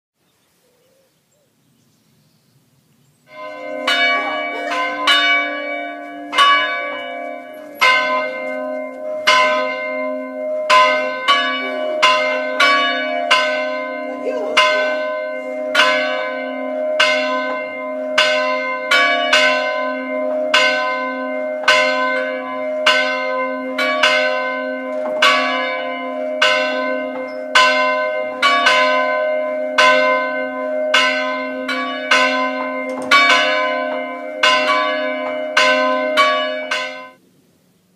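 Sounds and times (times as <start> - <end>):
church bells striking: 3.3 - 37.2.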